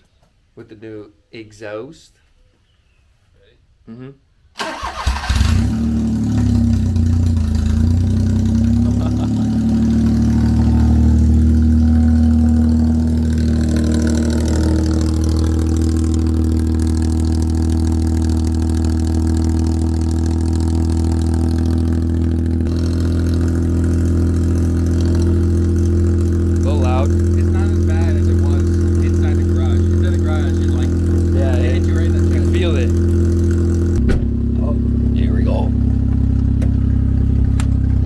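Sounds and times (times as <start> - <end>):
truck engine idling: 4.6 - 38.0.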